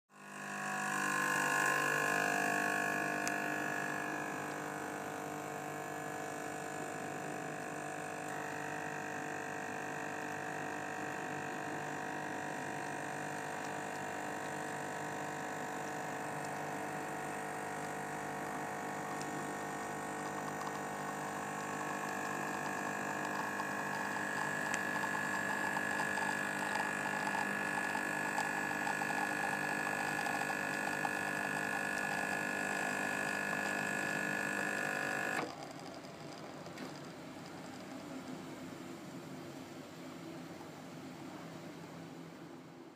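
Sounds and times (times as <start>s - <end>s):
espresso machine humming: 0.1s - 38.4s.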